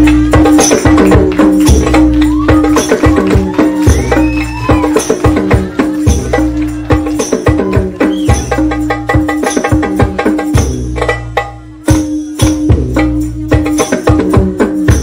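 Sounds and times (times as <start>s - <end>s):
frame drums and hand percussion: 0.0s - 15.0s.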